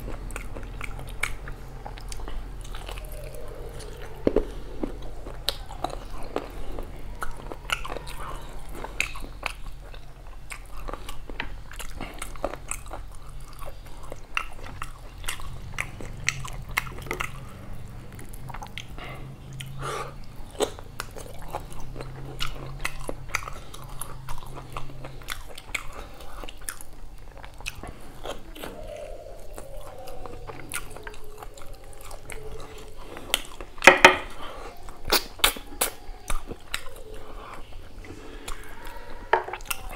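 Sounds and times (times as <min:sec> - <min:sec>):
wet chewing and lip smacking: 0:00.0 - 0:39.9.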